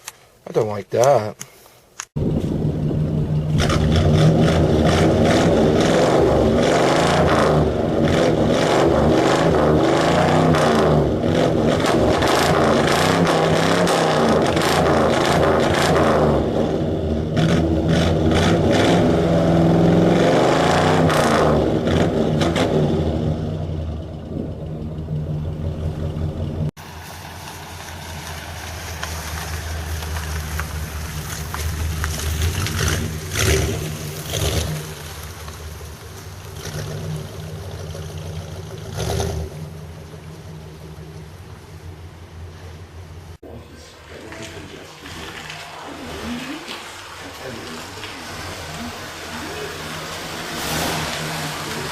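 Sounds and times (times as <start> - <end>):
car engine revving: 2.2 - 51.9.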